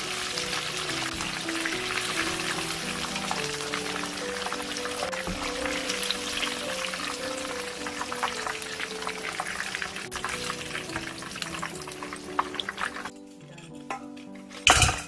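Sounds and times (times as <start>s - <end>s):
deep-frying sizzle and crackles: 0.0s - 13.1s.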